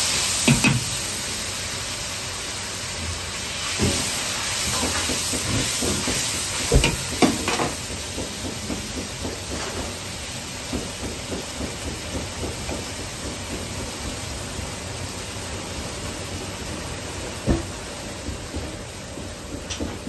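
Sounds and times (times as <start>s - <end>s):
gas burner rushing: 0.0s - 20.0s.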